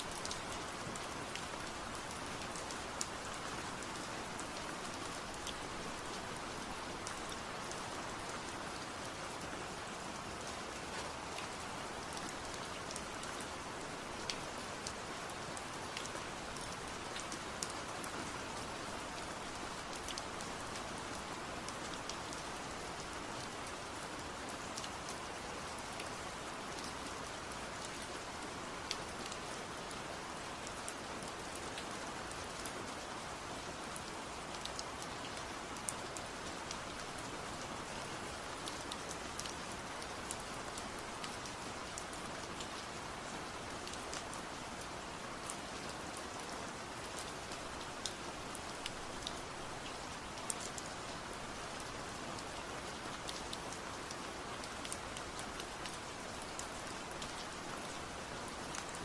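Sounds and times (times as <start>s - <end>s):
raindrops ticking on a surface: 0.0s - 59.0s
steady rain hiss: 0.0s - 59.0s.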